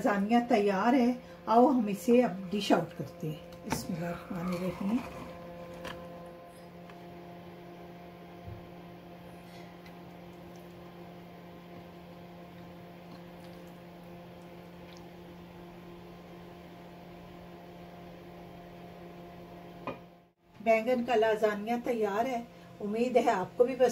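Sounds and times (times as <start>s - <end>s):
electrical hum: 0.0s - 23.9s.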